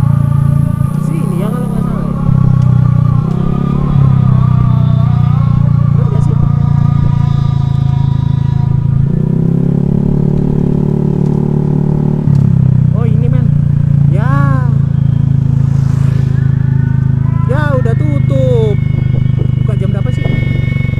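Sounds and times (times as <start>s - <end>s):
scooter engine running: 0.0s - 20.9s.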